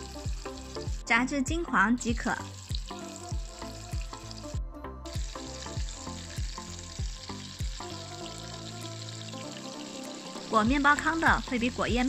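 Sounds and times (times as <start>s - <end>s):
background music with thumping beat: 0.0s - 12.0s
food deep-frying in oil: 0.0s - 12.0s.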